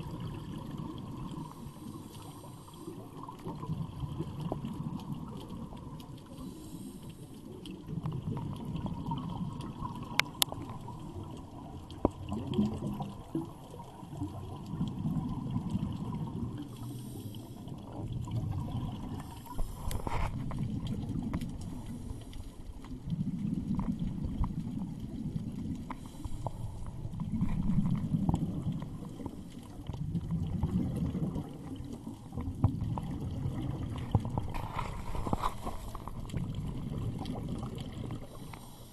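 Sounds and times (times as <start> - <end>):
regulator bubbles gurgling underwater: 0.0 - 38.9.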